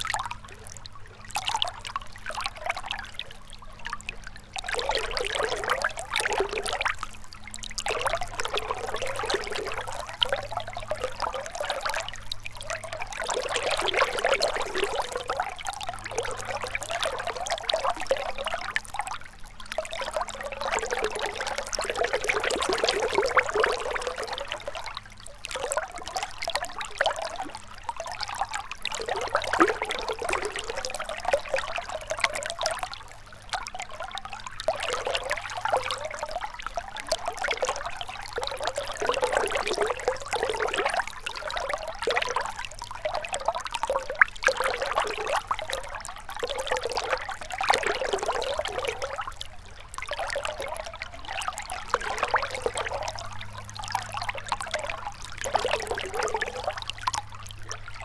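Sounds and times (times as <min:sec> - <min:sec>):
river trickling over stones: 0:00.0 - 0:58.0.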